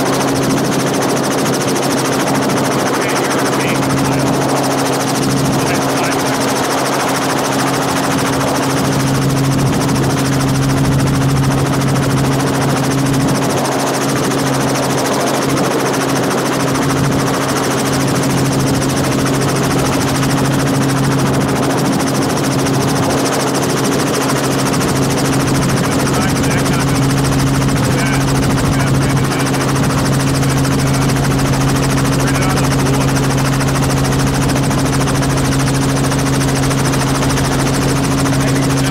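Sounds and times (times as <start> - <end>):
helicopter engine and rotors humming: 0.0 - 38.9.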